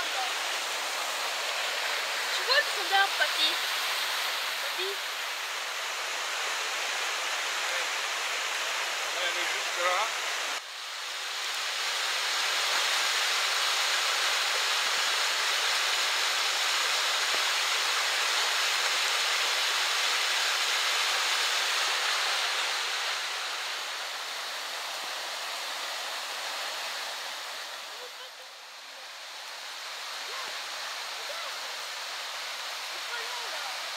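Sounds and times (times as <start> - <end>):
river rushing over rocks: 0.0 - 33.9.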